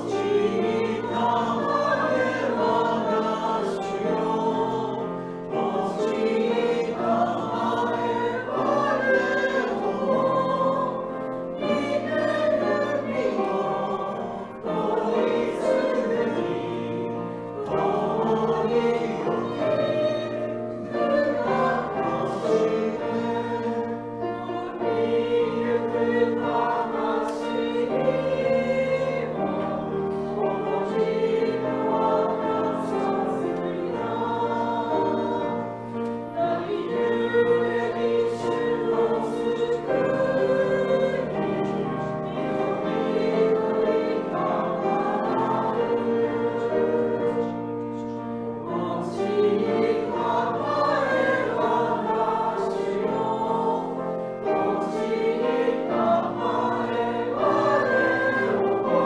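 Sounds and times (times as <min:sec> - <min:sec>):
group singing a hymn: 0:00.0 - 0:59.0
piano: 0:00.0 - 0:59.0.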